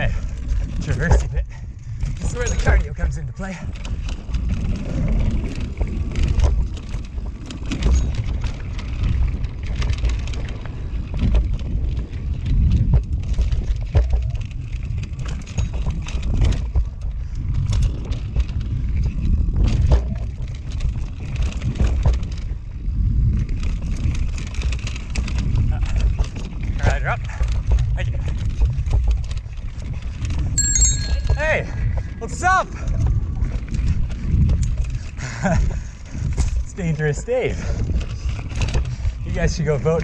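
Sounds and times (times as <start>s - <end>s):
bike chain and frame rattling: 0.0s - 40.0s
bike tyres rumbling on dirt: 0.0s - 40.0s
wind buffeting microphone: 0.0s - 40.0s.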